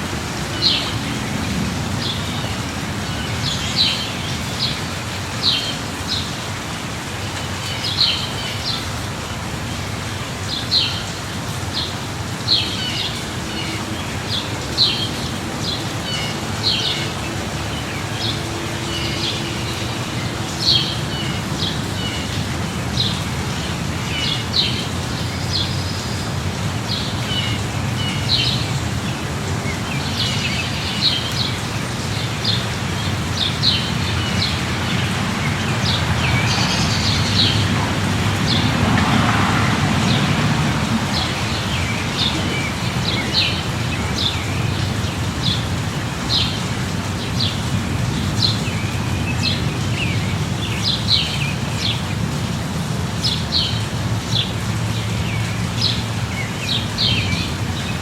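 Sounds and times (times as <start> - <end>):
light rain hiss: 0.0 - 58.0
birds chirping: 9.7 - 58.0.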